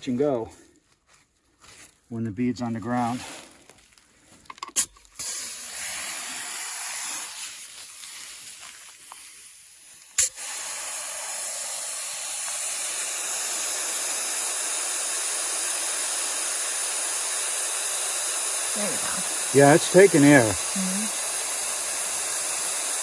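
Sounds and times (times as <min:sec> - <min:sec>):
compressed air hissing into tire: 0:04.6 - 0:23.0.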